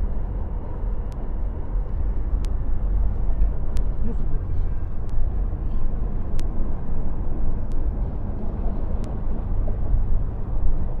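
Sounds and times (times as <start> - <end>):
subway train rumbling on bridge: 0.0 - 11.0.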